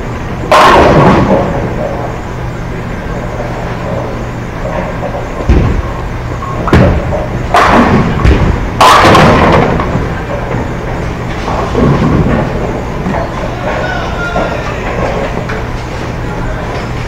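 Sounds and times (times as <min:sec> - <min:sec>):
bowling balls thudding and rolling: 0:00.0 - 0:17.0
din of bowling hall: 0:00.0 - 0:17.0
bowling pins clattering: 0:00.4 - 0:02.3, 0:03.0 - 0:17.0.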